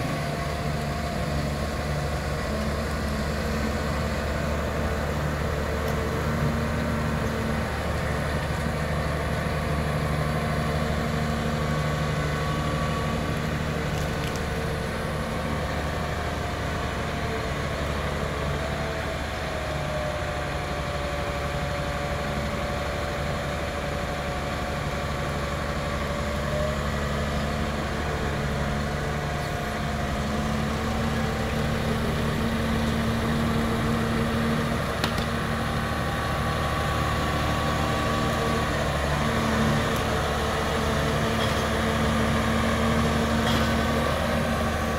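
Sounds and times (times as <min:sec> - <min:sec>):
diesel engine running at low revs: 0:00.0 - 0:44.9.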